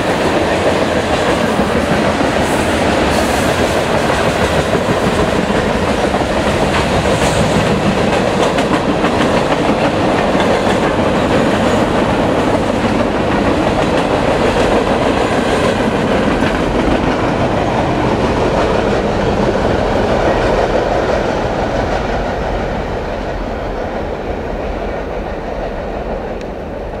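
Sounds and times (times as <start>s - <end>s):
freight train wheels clattering: 0.0s - 27.0s.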